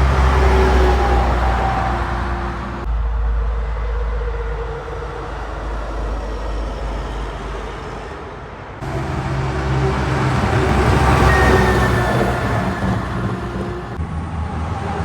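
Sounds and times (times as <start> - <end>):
roadside traffic rumble: 0.0 - 15.0
truck engine drone: 0.0 - 15.0.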